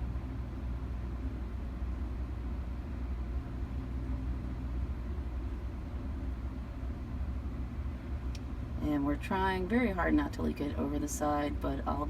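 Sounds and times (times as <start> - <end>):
low mechanical hum and rumble: 0.0 - 12.0.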